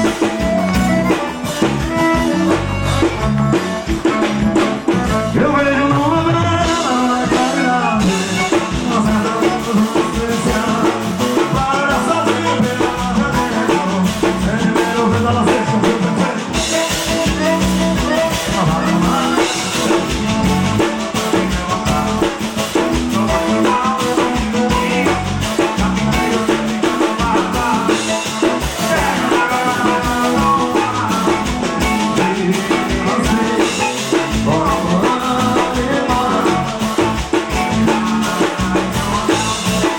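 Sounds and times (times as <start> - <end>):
band music with drum beat: 0.0 - 39.9
person singing: 0.0 - 39.9.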